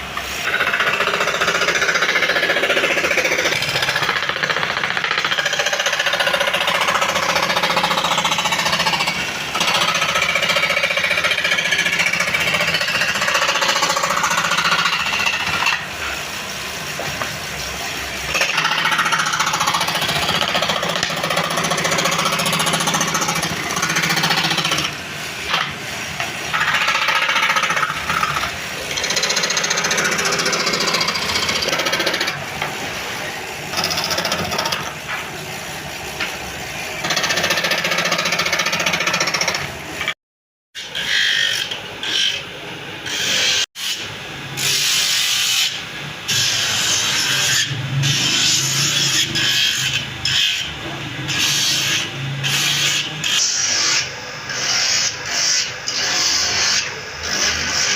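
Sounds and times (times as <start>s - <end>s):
power tool cutting wood: 0.0s - 17.2s, 18.3s - 35.2s, 40.8s - 57.9s.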